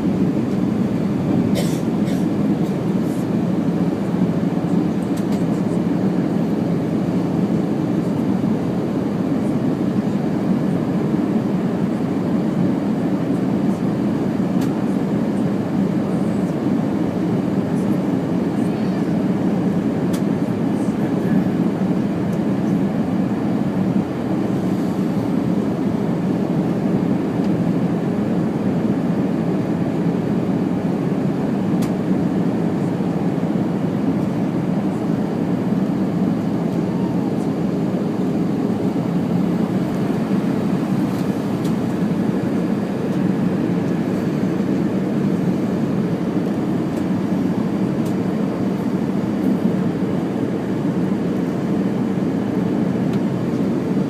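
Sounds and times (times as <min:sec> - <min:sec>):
airliner drone in flight: 0:00.0 - 0:54.0.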